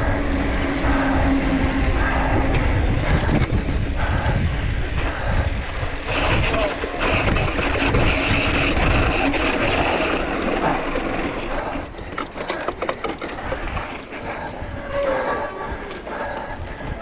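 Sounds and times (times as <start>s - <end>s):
wind and tyre noise: 0.0s - 17.0s.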